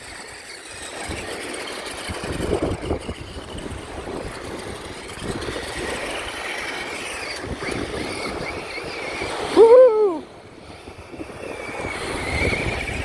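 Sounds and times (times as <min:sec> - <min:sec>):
small electric motor whine: 0:00.0 - 0:13.0
toy truck wheels rumbling: 0:00.0 - 0:13.0.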